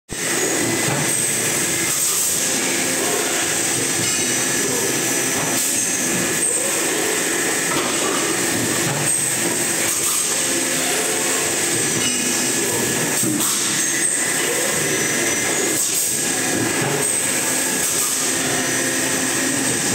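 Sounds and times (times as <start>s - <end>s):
machine whine and hiss: 0.1s - 19.9s.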